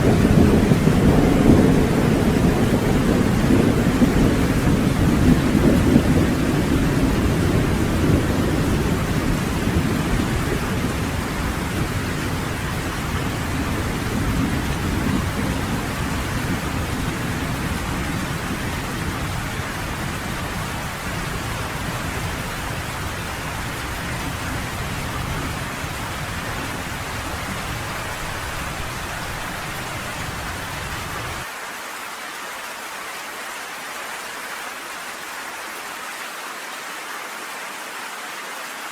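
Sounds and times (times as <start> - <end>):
thunder rolling: 0.0 - 31.4
heavy rain: 0.0 - 38.9.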